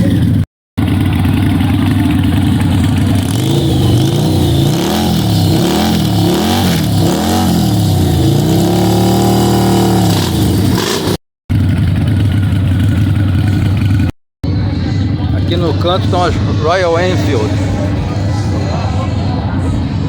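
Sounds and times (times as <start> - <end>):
idling engines rumble: 0.0 - 20.0
motorcycle engine revving: 0.0 - 20.0.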